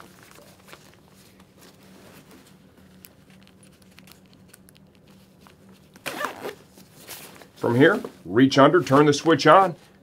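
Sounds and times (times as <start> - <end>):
fabric rustling: 0.0 - 4.2, 5.1 - 9.9
low steady hum: 0.0 - 10.0.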